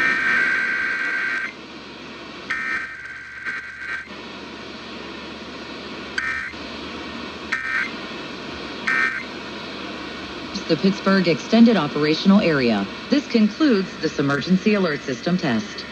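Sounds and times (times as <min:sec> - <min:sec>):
steady radio hiss: 0:00.0 - 0:15.9.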